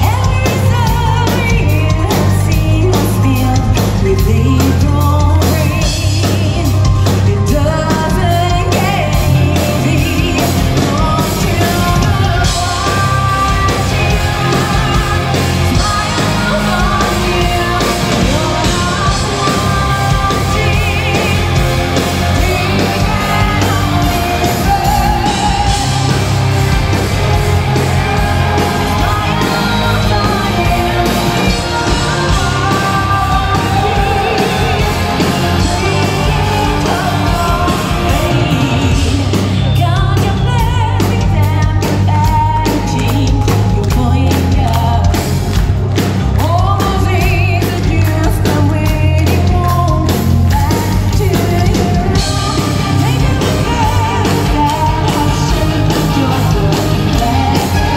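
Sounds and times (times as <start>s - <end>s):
bass guitar: 0.0s - 57.9s
distorted electric guitar: 0.0s - 57.9s
drums beating: 0.0s - 57.9s
woman singing lead vocals: 0.0s - 57.9s.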